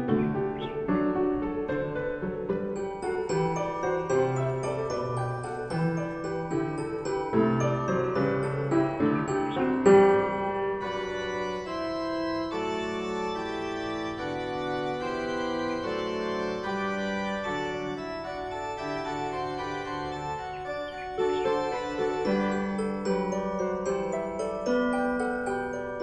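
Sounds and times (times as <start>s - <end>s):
organ-like keyboard chords: 0.0s - 26.0s.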